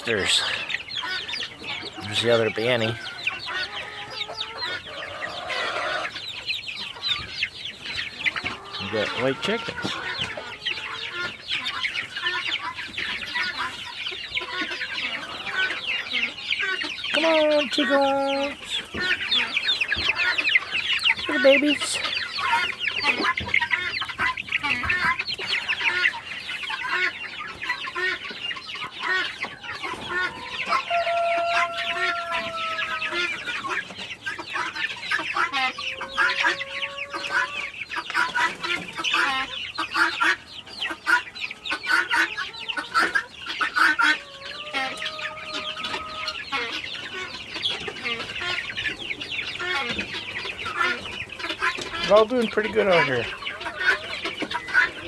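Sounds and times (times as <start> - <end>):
chicks cheeping: 0.0 - 55.0
drawn-out chicken call: 0.0 - 55.0.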